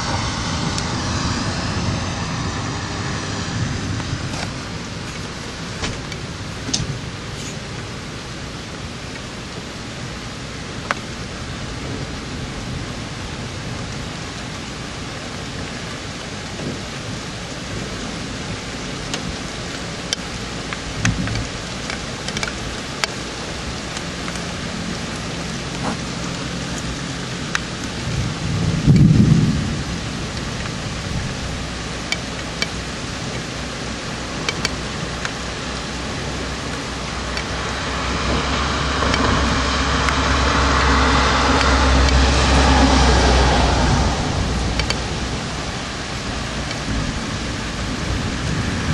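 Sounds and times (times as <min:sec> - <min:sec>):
steady rain: 0:00.0 - 0:48.9
thunder rumble: 0:00.0 - 0:48.9.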